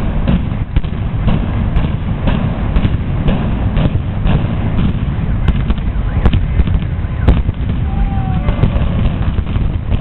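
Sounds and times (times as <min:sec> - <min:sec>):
explosive charges cracking: 0:00.0 - 0:10.0
low rumble: 0:00.0 - 0:10.0.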